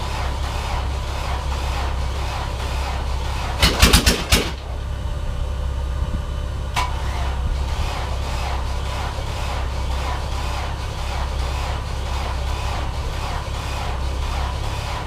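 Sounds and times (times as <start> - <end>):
sharp cracks: 0.0 - 4.8, 6.8 - 15.0
engine cranking slowly: 0.0 - 15.0.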